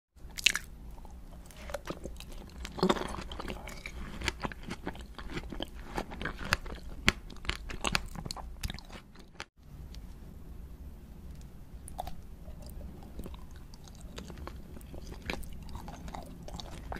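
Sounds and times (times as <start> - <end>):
wet chewing: 0.3 - 9.5, 11.8 - 16.9.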